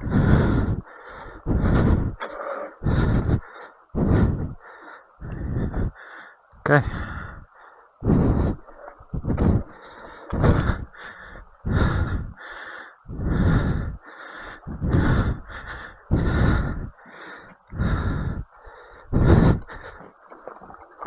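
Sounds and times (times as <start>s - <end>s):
person breathing hard and fast: 0.0s - 21.0s.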